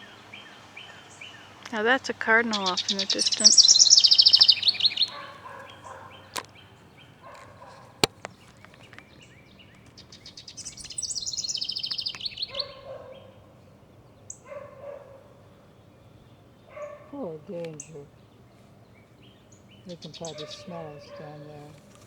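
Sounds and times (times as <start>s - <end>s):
songbird trilling: 0.0s - 22.0s.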